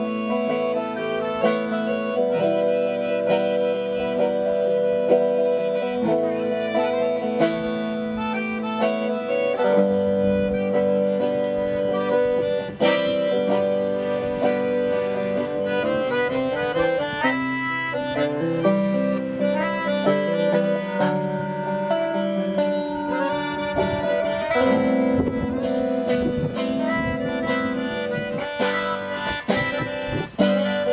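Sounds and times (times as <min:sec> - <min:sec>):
accordion playing: 0:00.0 - 0:30.9
guitar plucking: 0:00.0 - 0:30.9.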